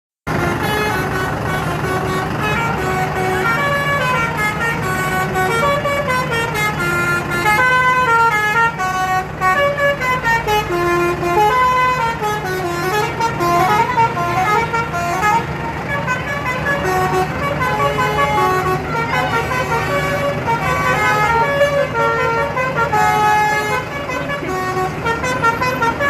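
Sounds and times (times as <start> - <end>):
multi-tone bus horn tune: 0.2 - 26.0.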